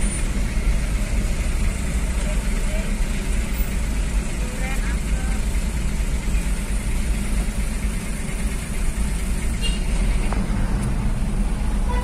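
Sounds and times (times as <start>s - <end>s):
ferry engine rumble: 0.0s - 12.0s.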